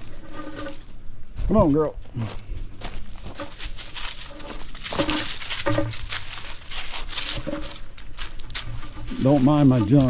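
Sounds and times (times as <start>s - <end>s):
footsteps crunching dry leaves: 0.0s - 10.0s.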